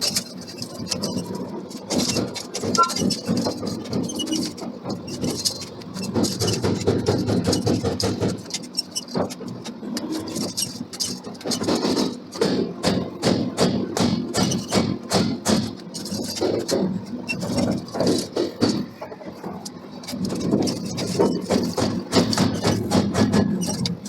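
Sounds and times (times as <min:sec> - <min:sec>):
machinery knocking and clanking: 0:00.0 - 0:24.0.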